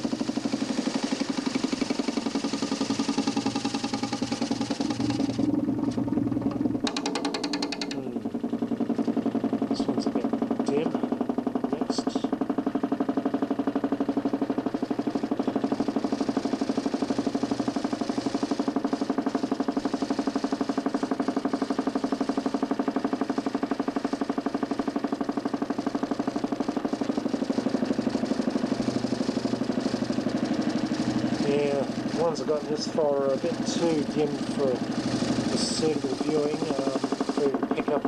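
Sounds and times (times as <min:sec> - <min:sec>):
motor spinning disc with pulsing drone: 0:00.0 - 0:38.0.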